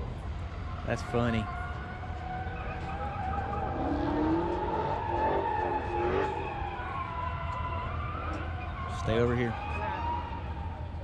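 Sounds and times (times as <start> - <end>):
car tyres squealing: 1.6 - 10.4.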